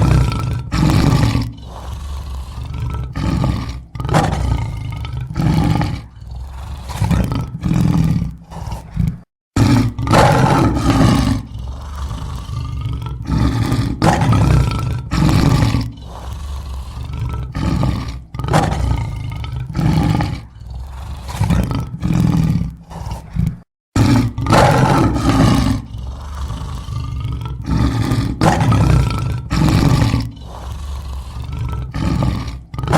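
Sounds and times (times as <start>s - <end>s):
lion roaring and grunting: 0.0s - 32.9s.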